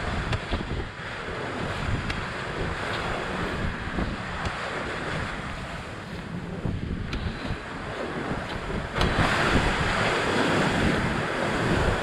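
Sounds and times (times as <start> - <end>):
wind gusting on microphone: 0.0 - 12.0.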